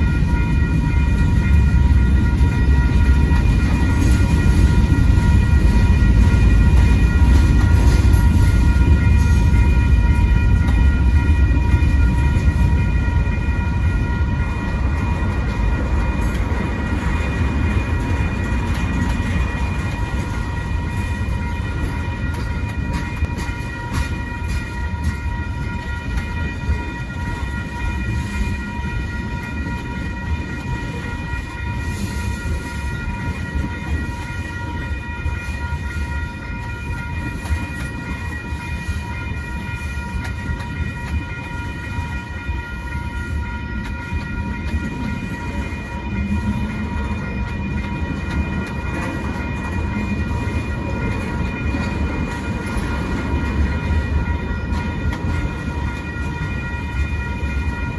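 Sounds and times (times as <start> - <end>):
crossing bell ringing: 0.0 - 57.9
freight train cars rumbling: 0.0 - 57.9.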